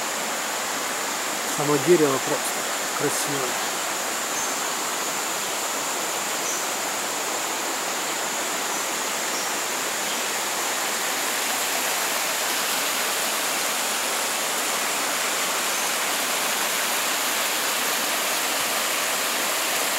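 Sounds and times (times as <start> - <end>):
water rushing over rocks: 0.0 - 19.9.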